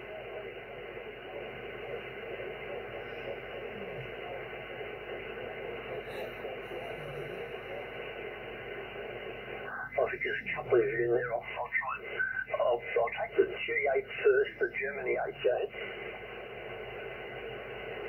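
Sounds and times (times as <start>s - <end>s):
radio band noise hiss: 0.0s - 18.0s.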